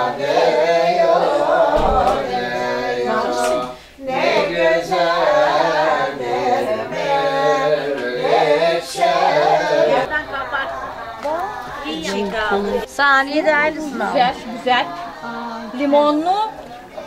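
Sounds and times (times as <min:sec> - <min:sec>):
voices singing unaccompanied: 0:00.0 - 0:17.0.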